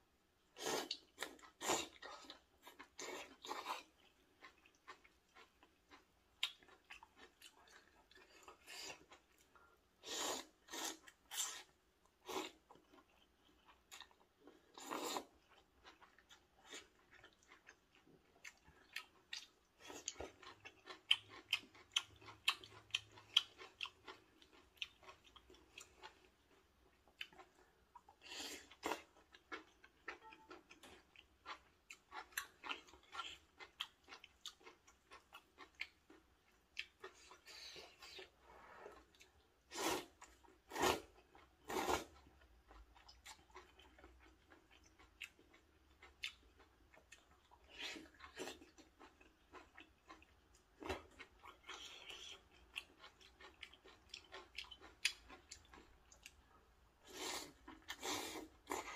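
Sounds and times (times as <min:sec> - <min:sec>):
wet chewing with mouth clicks: 0:00.6 - 0:58.9.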